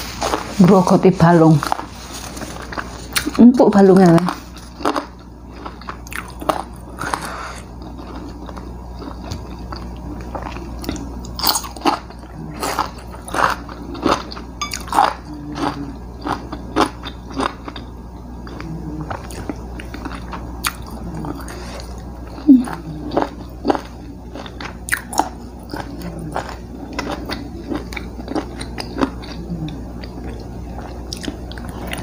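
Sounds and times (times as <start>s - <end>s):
chewing crunchy fried chicken: 1.5s - 32.0s.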